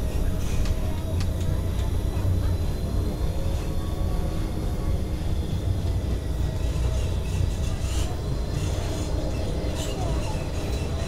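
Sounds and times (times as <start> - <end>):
tram low rumble: 0.0 - 11.0.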